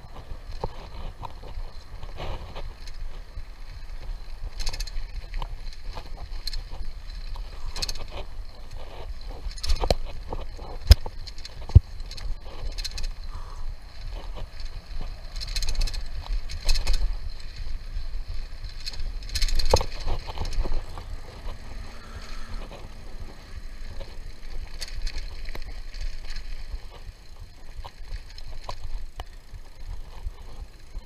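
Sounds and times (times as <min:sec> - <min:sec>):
bike rattling over bumps: 0:00.0 - 0:31.0
wind rumbling on microphone: 0:00.0 - 0:31.0.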